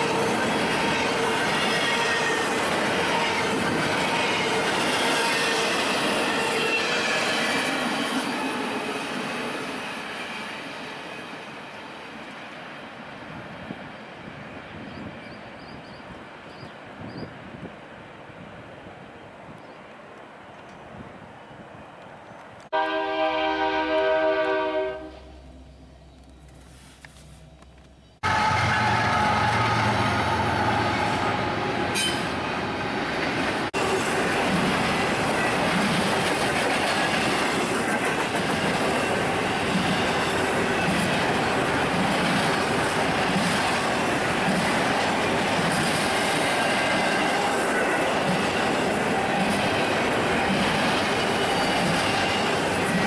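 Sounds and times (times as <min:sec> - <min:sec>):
train cars rolling on rails: 0:00.0 - 0:53.0.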